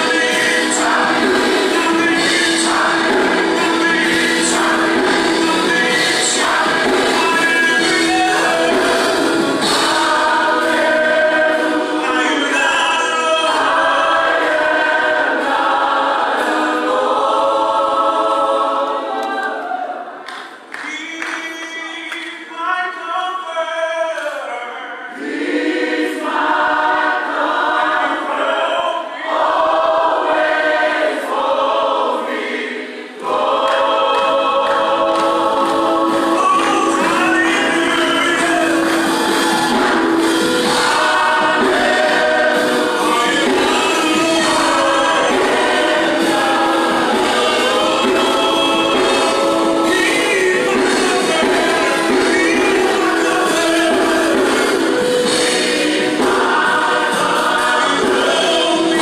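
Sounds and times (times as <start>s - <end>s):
choir singing gospel song: 0.0s - 23.4s, 24.1s - 59.0s.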